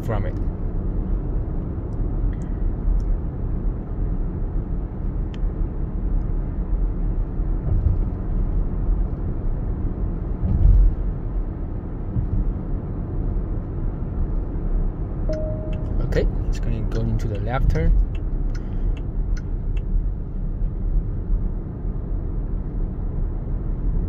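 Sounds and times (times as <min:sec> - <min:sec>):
car cabin road noise: 0:00.0 - 0:24.0.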